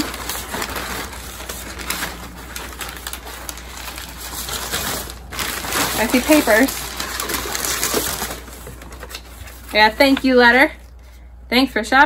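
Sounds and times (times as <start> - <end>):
packing paper rustling: 0.0 - 10.7.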